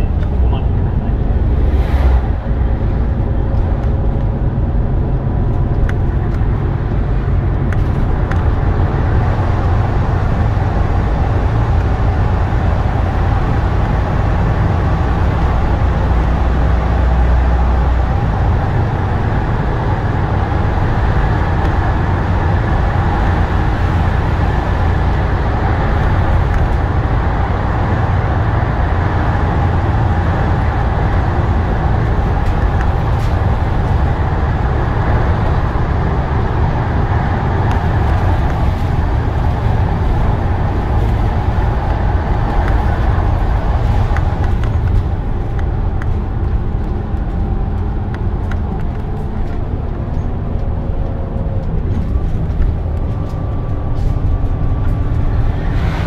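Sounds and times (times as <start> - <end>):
bus engine and tyres rumbling: 0.0 - 56.0.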